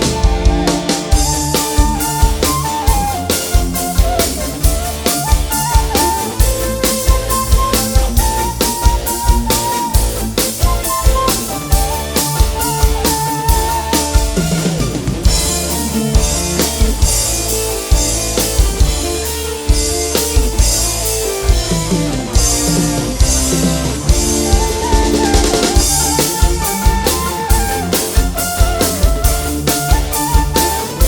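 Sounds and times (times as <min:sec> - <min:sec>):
band playing through loudspeakers: 0:00.0 - 0:31.0
drum kit beat: 0:00.0 - 0:31.0.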